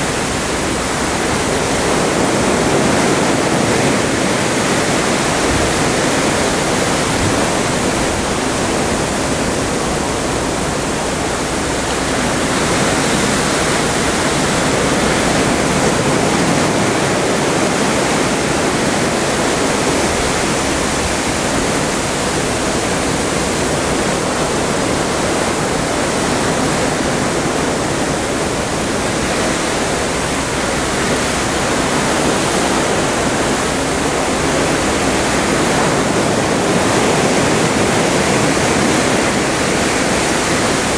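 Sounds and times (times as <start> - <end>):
sea water rushing alongside ship: 0.0 - 40.9.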